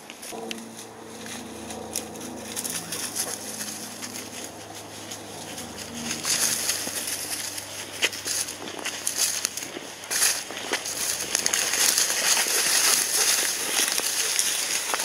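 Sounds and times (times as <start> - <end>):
leaves and brush rustling underfoot: 0.0 - 15.0.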